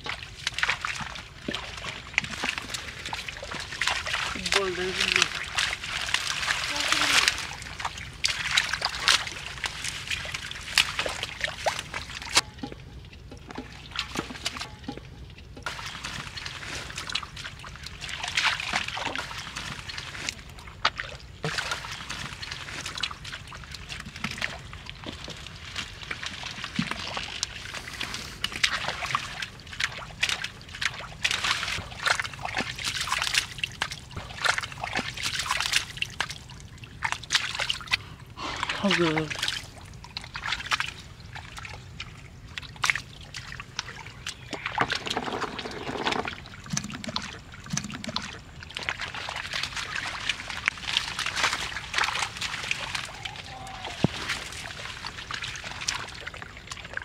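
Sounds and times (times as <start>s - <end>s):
muddy water sloshing and splashing: 0.0s - 57.0s.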